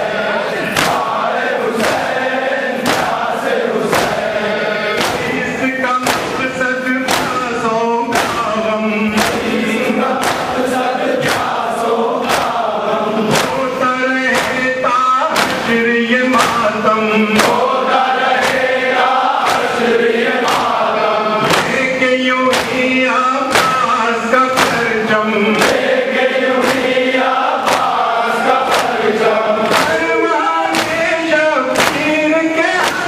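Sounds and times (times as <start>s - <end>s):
crowd chanting: 0.0s - 33.0s
hands beating chests: 0.6s - 33.0s
man singing lament into microphone: 4.0s - 33.0s.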